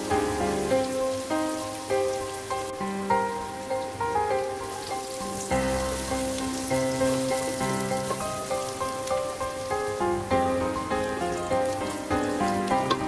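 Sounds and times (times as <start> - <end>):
onions sizzling in hot oil: 0.0 - 13.0
slow instrumental music: 0.0 - 13.0.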